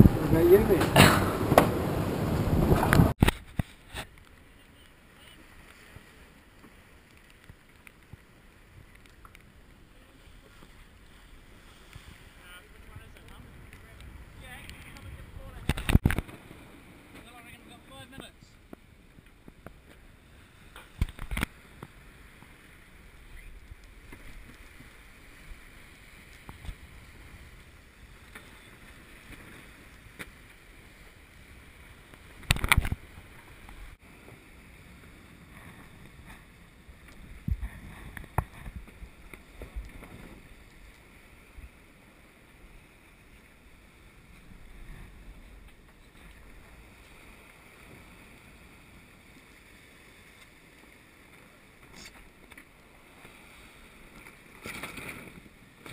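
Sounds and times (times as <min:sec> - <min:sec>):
water rushing along hull: 0:00.0 - 0:55.9
wind: 0:00.0 - 0:55.9.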